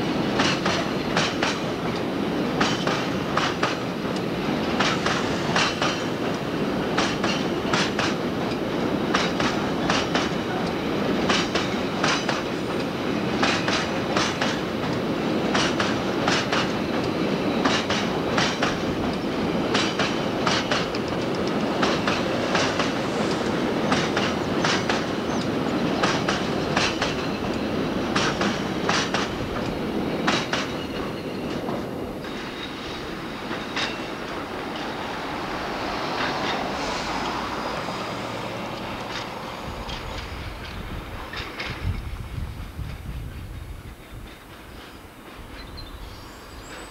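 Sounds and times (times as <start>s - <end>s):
train wheels clicking over rail joints: 0.0s - 46.9s.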